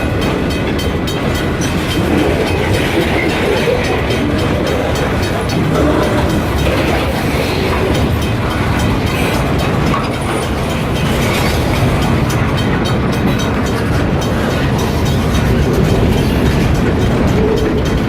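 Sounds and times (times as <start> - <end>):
train wheels rumbling on rail: 0.0 - 18.0
wheels clicking over rail joints: 0.0 - 18.0.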